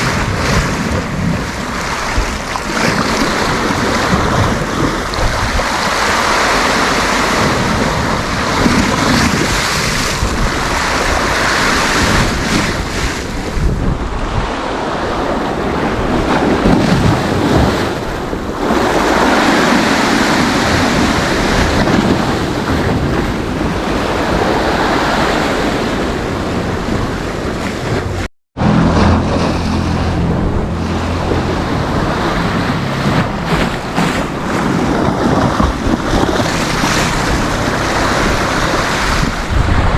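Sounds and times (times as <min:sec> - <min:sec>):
surf breaking on shore: 0:00.0 - 0:39.9
wind buffeting microphone: 0:00.0 - 0:39.9.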